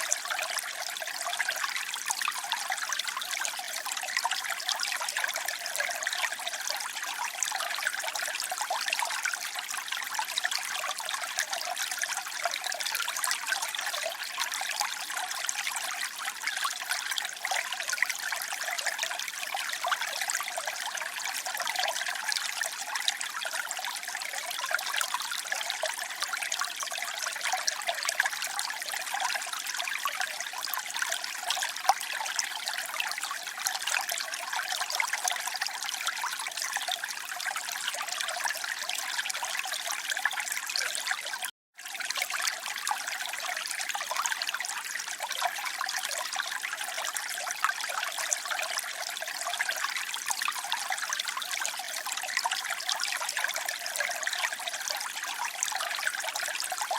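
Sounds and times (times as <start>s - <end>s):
water trickling and flowing: 0.0s - 56.9s.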